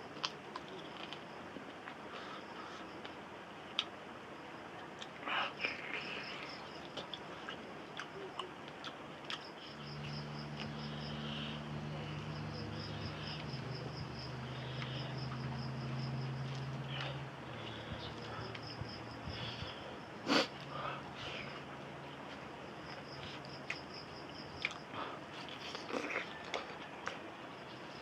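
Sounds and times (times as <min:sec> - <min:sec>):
crickets chirping: 0:00.0 - 0:28.0
steady low hum: 0:00.0 - 0:28.0.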